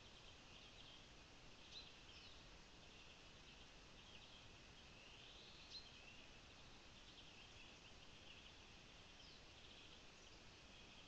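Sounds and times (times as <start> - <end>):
faint birdsong chirps: 0.0 - 11.0.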